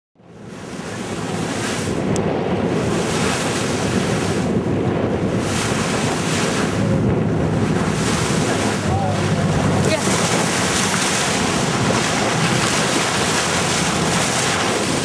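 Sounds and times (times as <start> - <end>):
low rumble: 0.2 - 15.0
sea washing against boat: 0.2 - 15.0
wind buffeting microphone: 0.2 - 15.0.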